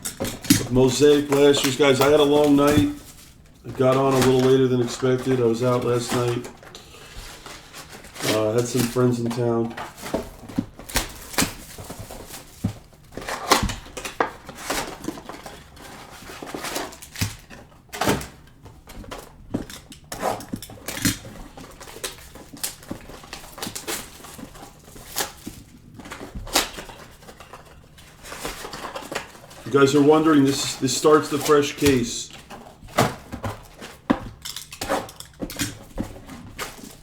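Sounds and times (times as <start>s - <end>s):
packaging crinkling: 0.0s - 37.0s
packs being opened with clicks and taps: 0.0s - 37.0s.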